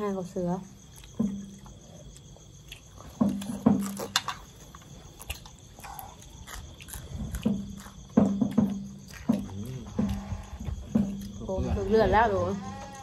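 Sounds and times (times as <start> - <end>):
crickets chirping: 0.0 - 13.0
greens being chewed: 0.8 - 11.5.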